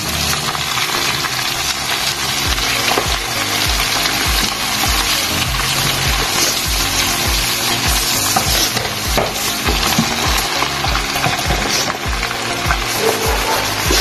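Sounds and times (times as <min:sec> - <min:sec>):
background music with low beat: 0:00.0 - 0:14.0
chicken deep-frying in oil: 0:00.0 - 0:14.0.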